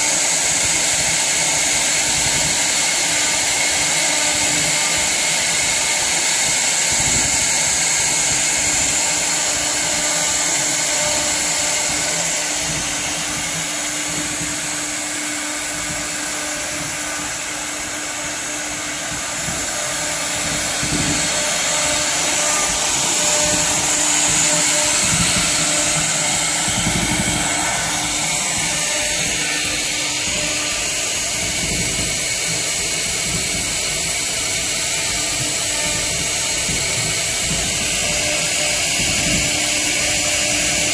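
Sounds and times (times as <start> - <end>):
cutting into wood hiss: 0.0 - 40.9
router spindle whine: 0.0 - 40.9.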